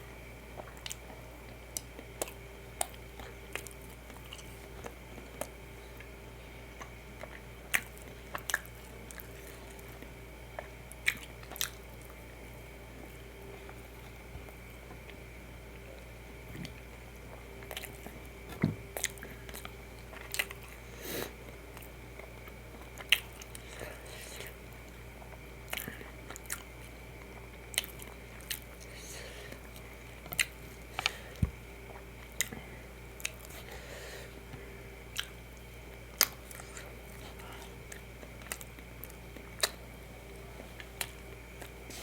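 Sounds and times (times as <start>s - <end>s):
background hum: 0.0s - 42.0s
person chewing food: 0.5s - 42.0s.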